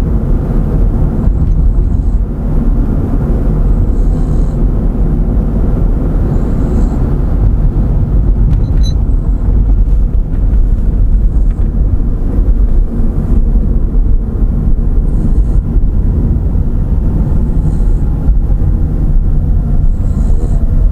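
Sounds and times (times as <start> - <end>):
low rumble: 0.0 - 20.9.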